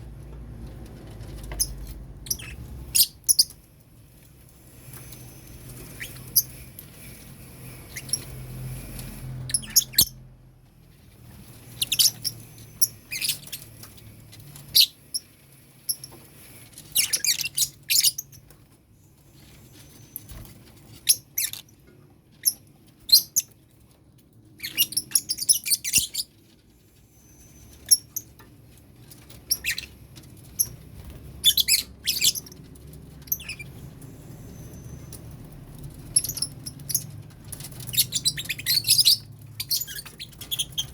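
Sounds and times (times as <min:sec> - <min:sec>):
lovebirds chirping: 0:01.2 - 0:10.2, 0:11.3 - 0:21.8, 0:24.6 - 0:40.9.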